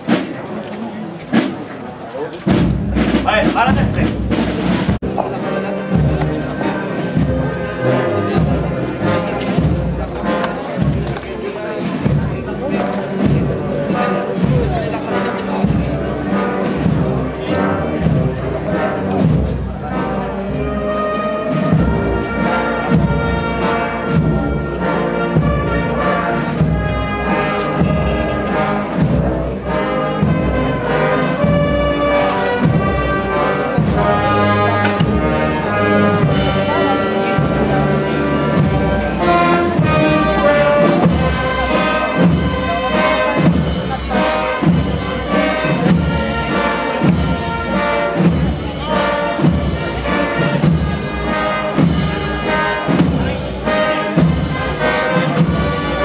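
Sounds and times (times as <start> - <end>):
brass band playing a march: 0.0 - 56.0
steady drum beat: 2.4 - 56.0.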